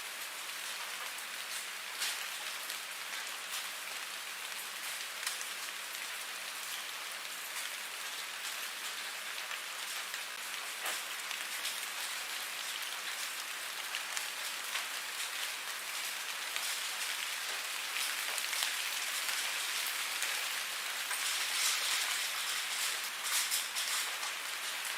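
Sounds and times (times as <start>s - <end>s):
rain falling on a surface: 0.0s - 24.9s.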